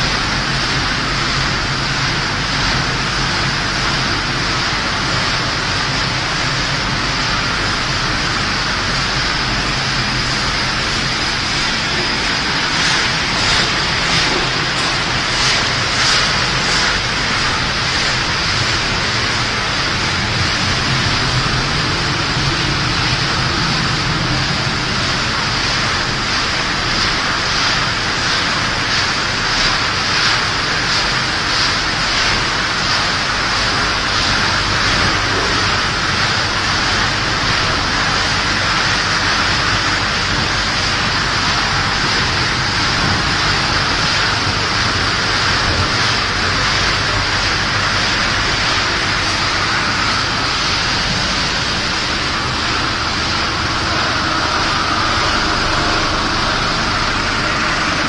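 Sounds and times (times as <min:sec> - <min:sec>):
machinery running with hiss: 0:00.0 - 0:58.0.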